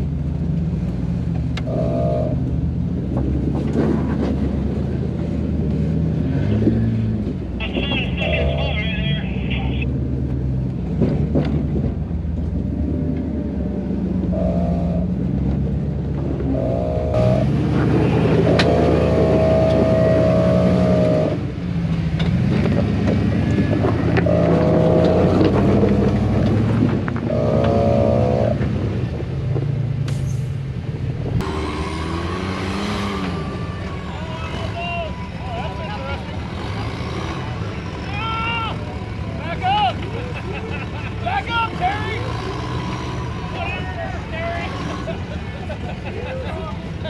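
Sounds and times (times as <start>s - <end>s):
off-road vehicle engine revving: 0.0s - 47.0s.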